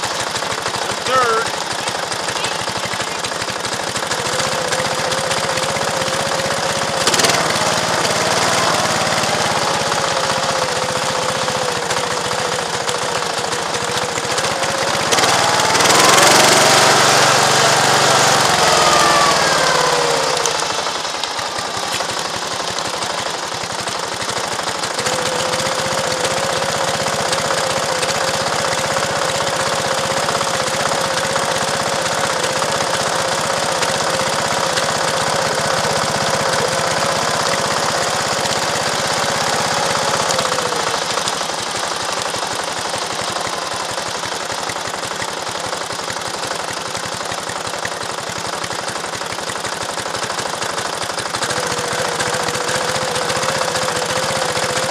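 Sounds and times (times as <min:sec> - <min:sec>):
small engine chattering on track: 0:00.0 - 0:54.9.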